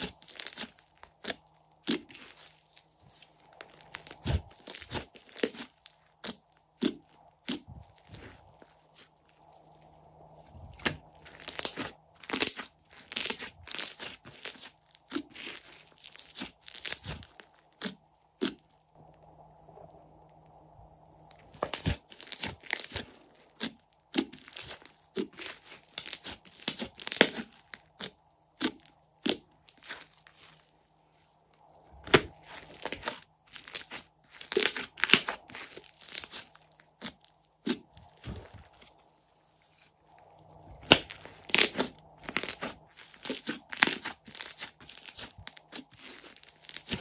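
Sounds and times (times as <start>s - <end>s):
slime crackling and popping: 0.0s - 9.9s, 10.7s - 18.8s, 21.3s - 30.7s, 32.0s - 47.0s.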